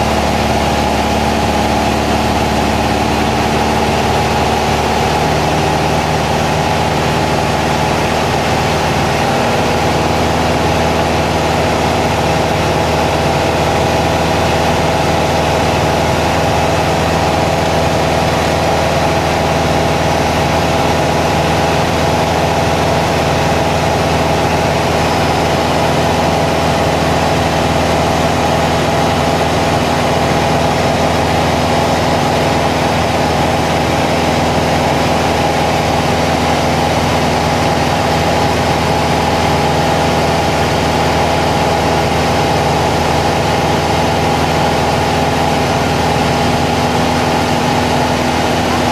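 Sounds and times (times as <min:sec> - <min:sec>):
aircraft engines droning: 0:00.0 - 0:48.9.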